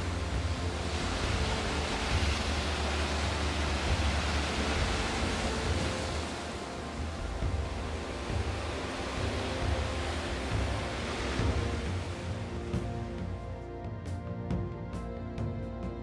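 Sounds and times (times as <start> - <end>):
sea surf against rocks: 0.0 - 13.7
wind rumble on microphone: 0.0 - 16.0.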